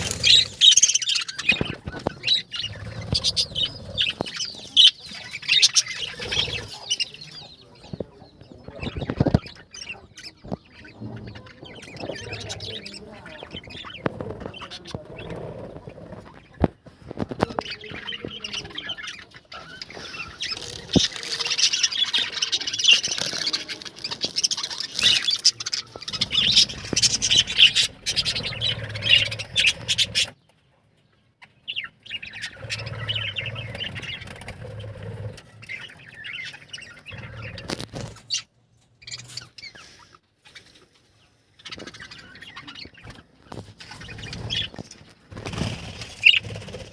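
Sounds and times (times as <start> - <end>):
budgerigars chattering: 0.0 - 16.6, 17.5 - 30.4, 31.6 - 40.6, 41.5 - 46.9.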